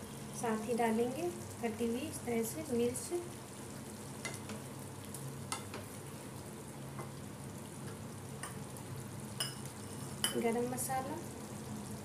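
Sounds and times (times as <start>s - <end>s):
gravy sizzling in a pan: 0.0s - 12.0s
low steady hum: 0.0s - 12.0s.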